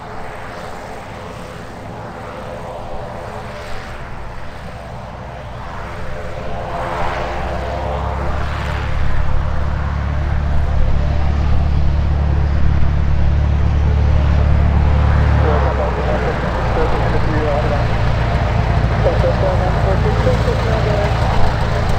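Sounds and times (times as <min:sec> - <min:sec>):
small plane engine and propeller: 0:00.0 - 0:21.9.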